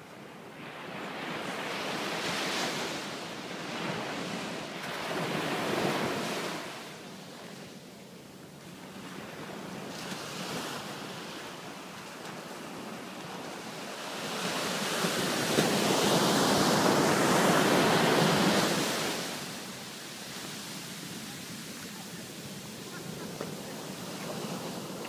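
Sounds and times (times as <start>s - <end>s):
ocean waves breaking on sand: 0.0s - 25.0s.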